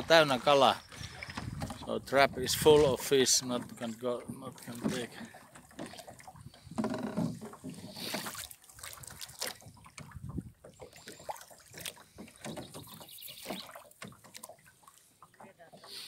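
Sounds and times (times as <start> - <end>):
water splashing and dripping: 0.1 - 16.0.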